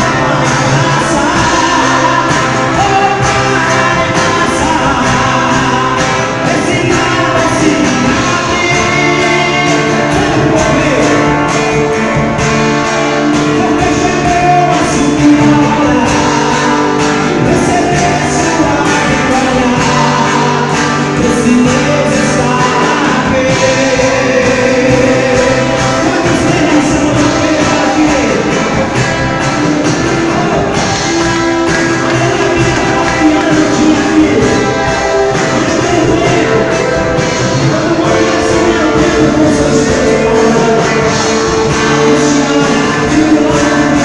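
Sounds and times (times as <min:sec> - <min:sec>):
amplified band playing: 0:00.0 - 0:44.0
gospel singing with backing voices: 0:00.0 - 0:44.0.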